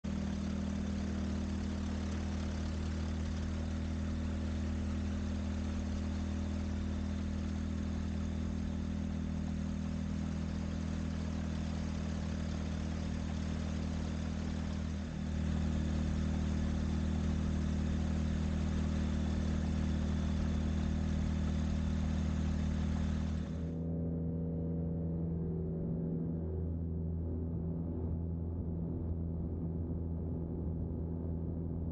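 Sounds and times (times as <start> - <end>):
light aircraft engine: 0.0 - 31.9.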